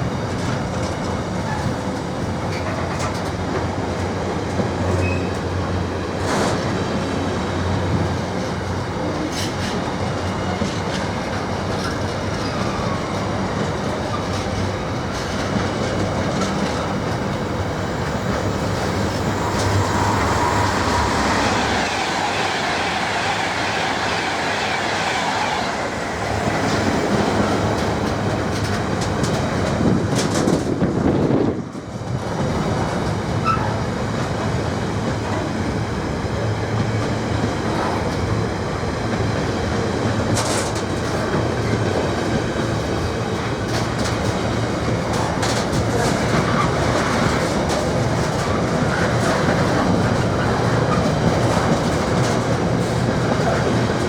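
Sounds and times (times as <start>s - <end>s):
train wheels clicking on rails: 0.0s - 54.0s.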